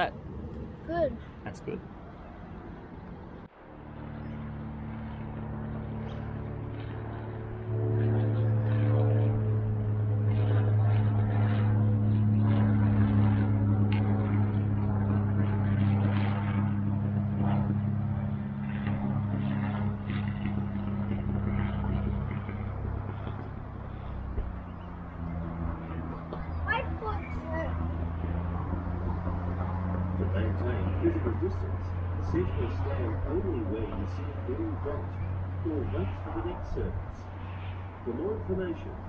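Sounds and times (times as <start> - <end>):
aircraft engine droning overhead: 0.0 - 39.0.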